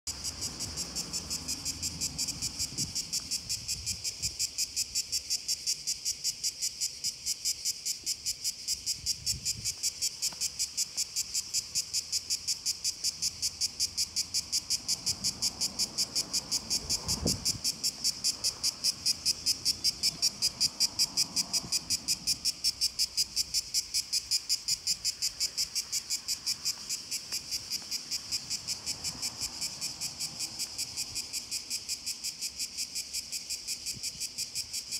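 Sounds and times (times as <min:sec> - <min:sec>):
cicadas buzzing: 0:00.1 - 0:34.9.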